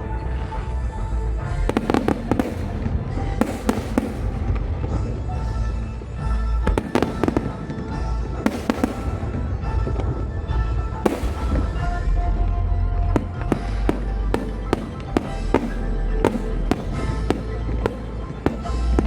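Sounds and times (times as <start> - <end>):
music: 0.0 - 19.0
fireworks rumbling: 1.4 - 19.0
fireworks crackling: 1.7 - 5.9, 6.7 - 19.0.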